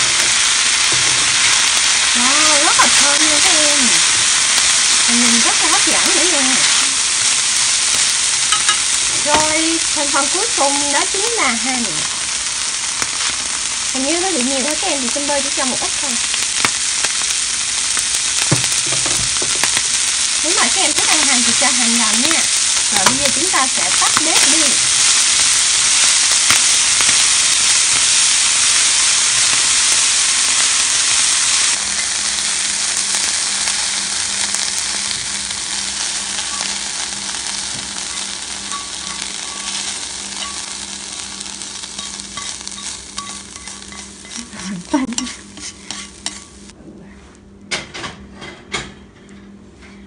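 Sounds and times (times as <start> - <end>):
corn sizzling in butter: 0.0 - 46.8.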